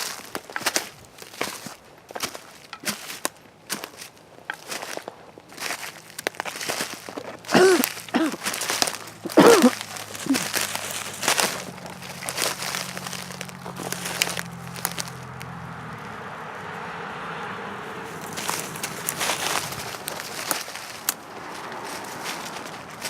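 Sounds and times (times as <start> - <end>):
footsteps crunching in dry leaves: 0.0 - 23.0.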